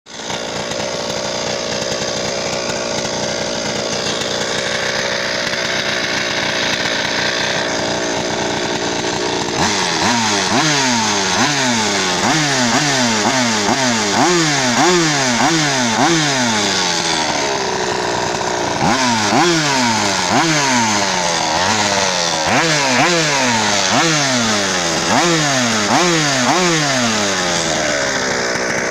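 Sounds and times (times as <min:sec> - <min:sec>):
small engine idling and revving: 0:00.1 - 0:28.9.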